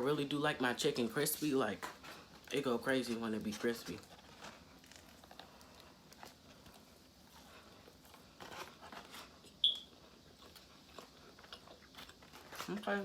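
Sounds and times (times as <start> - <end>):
chewing and soft crunching: 0.8 - 13.0.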